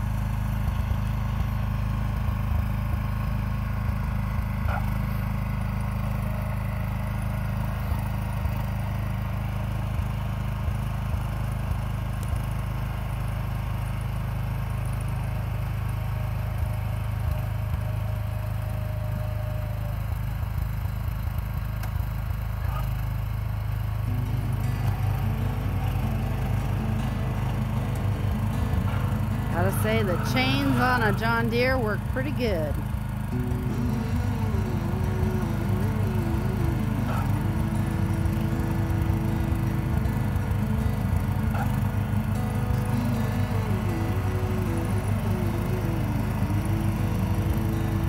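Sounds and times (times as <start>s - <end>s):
garden tractor engine running: 0.0s - 48.0s.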